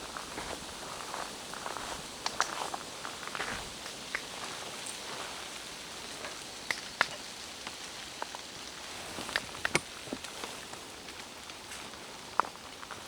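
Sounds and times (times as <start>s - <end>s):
rain falling in forest: 0.0s - 13.0s.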